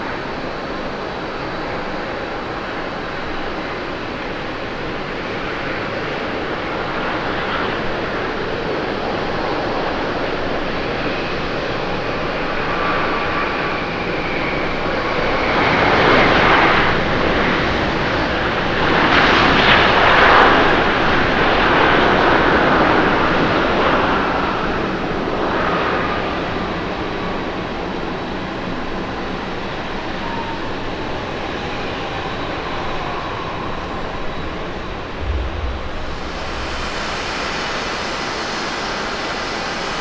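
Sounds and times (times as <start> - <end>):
jet engines roaring and whining: 0.0 - 40.0.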